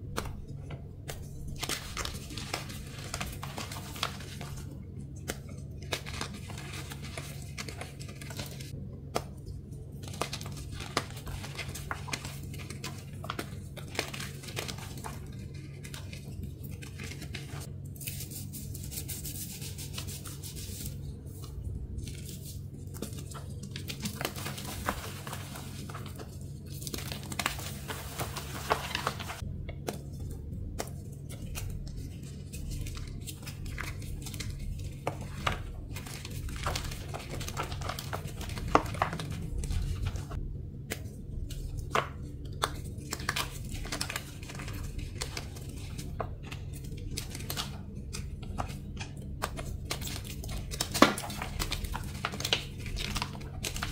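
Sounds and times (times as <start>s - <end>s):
low hum: 0.0s - 53.9s.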